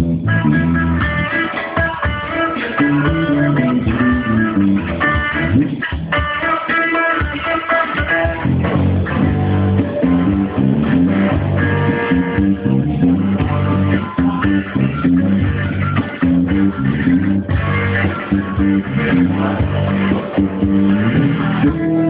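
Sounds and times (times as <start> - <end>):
bass guitar funk line: 0.0 - 22.0
guitar playing funk groove: 0.0 - 22.0.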